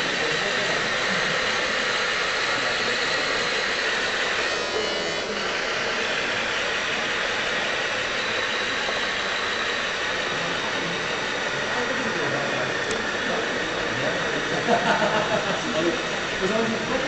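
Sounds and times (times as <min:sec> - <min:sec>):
busy hall noise: 0:00.0 - 0:17.0
small motor and gears whirring: 0:00.0 - 0:17.0.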